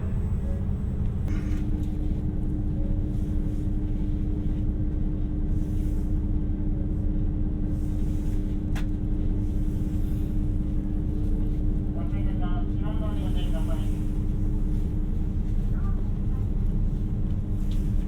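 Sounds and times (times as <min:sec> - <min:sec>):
constant hum: 0:00.0 - 0:18.0
railcar low rumble: 0:00.0 - 0:18.0.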